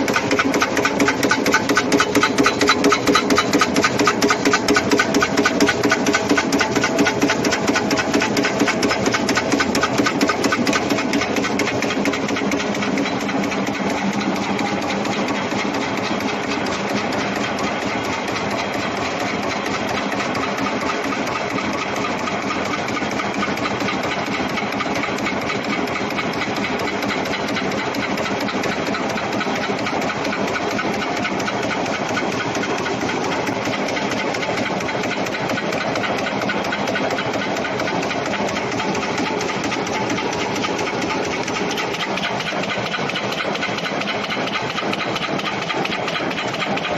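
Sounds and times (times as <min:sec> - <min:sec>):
metal press stamping sheet: 0:00.0 - 0:46.9.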